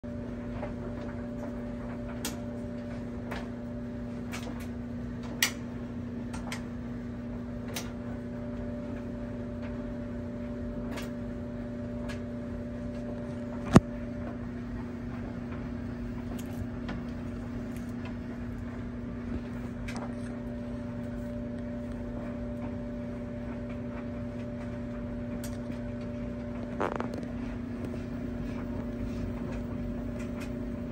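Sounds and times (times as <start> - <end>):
appliance electrical hum: 0.0 - 30.9.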